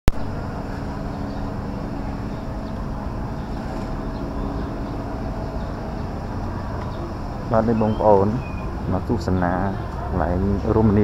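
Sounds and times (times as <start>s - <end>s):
steady mechanical hum: 0.2s - 11.0s.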